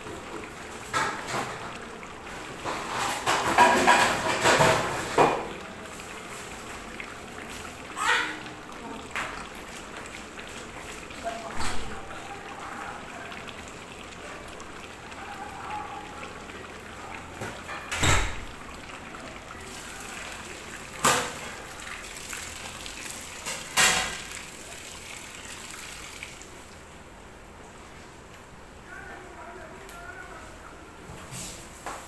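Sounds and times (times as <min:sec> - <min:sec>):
food cooking in a pot: 0:00.0 - 0:32.0.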